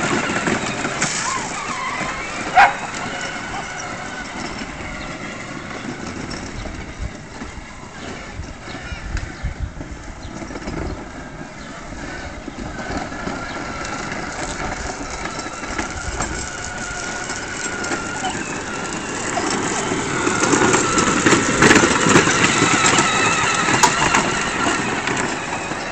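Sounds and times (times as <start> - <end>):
electric motor whine: 0.0 - 9.6, 11.5 - 25.9.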